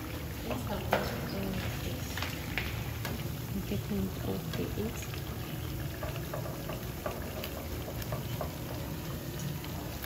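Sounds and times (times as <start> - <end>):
fritters sizzling in hot oil: 0.0 - 10.0
oil crackling and popping: 0.0 - 10.0.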